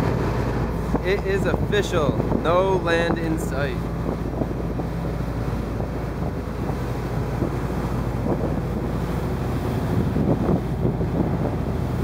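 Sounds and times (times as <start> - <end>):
boat engine droning: 0.0 - 12.0
rushing churned water: 0.0 - 12.0
wind buffeting microphone: 0.0 - 12.0.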